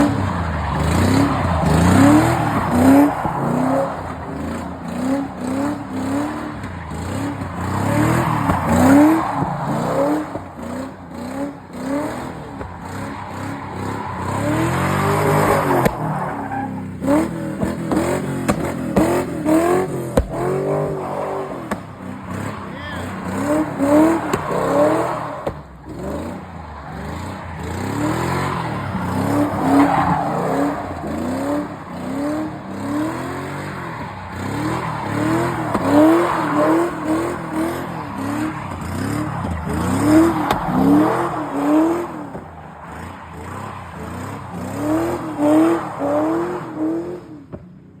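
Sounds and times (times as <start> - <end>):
tyres squealing: 0.0 - 46.4
car engine revving: 0.0 - 47.6.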